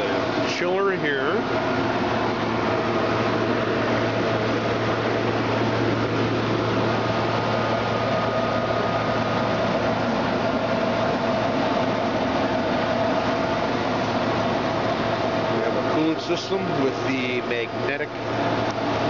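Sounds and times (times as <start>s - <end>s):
grinder machinery hum and hiss: 0.0s - 19.0s
steady higher machine tones: 0.0s - 19.0s.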